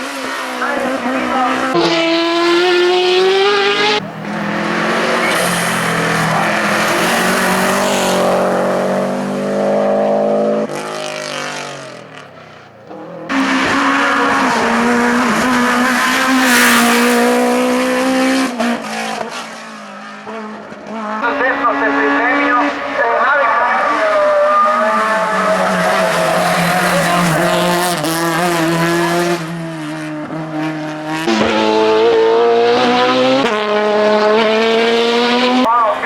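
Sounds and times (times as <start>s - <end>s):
race car engines at full throttle: 0.0s - 36.0s.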